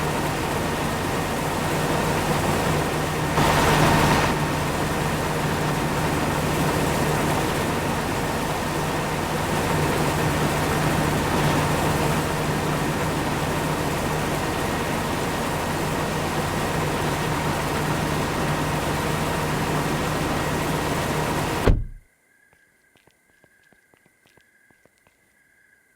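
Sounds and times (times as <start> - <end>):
farm machinery droning: 0.0 - 22.0.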